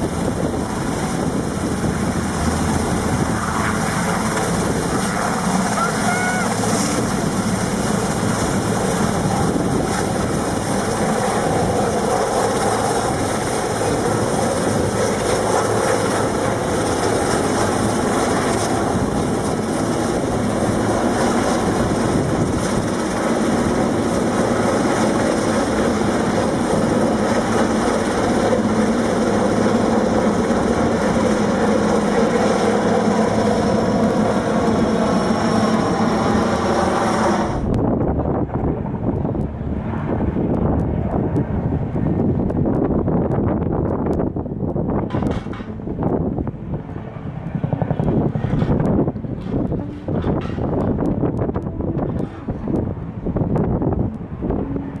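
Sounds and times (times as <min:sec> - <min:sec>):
helicopter turbines and rotor: 0:00.0 - 0:55.0.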